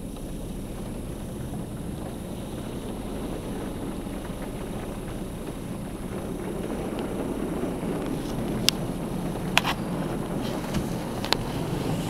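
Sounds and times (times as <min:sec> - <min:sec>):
muffled car wash spray rushing: 0:00.0 - 0:12.0.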